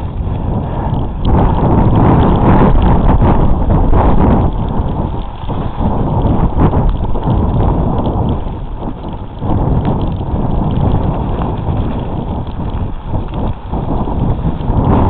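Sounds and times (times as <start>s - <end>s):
bicycle rattling on dirt trail: 0.0s - 15.0s
wind buffeting microphone: 0.0s - 15.0s.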